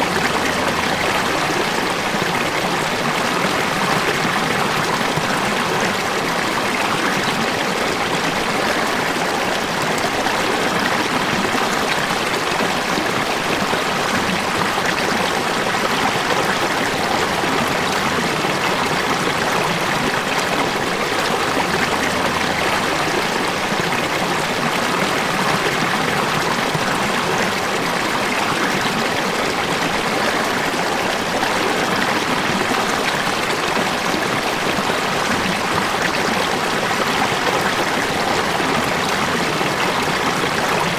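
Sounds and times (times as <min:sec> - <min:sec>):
falling water: 0:00.0 - 0:40.9.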